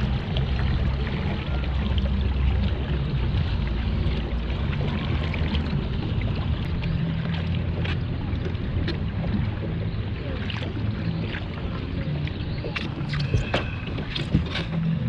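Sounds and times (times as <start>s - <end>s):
water splashes and drips: 0.0s - 15.0s
wind rumble on microphone: 0.0s - 15.0s.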